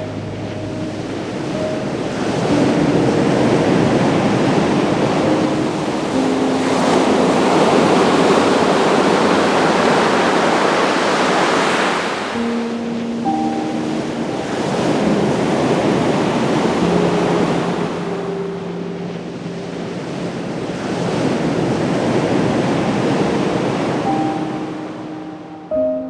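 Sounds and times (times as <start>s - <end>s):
ocean surf breaking on beach: 0.0s - 26.0s.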